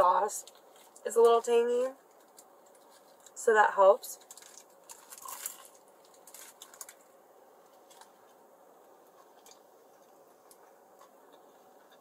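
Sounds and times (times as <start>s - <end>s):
chewing crusty bread: 0.4s - 1.1s, 2.0s - 3.4s, 4.2s - 12.0s.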